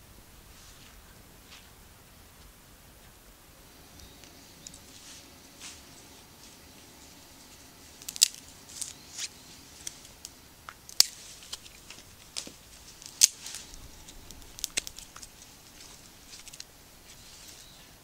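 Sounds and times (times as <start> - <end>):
twigs crackling in fire: 0.4 - 18.0.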